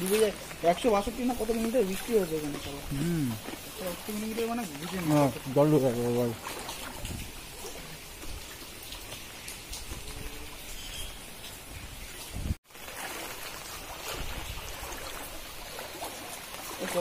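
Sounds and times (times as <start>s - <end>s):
floodwater rushing: 0.0s - 17.0s
rain: 0.0s - 17.0s.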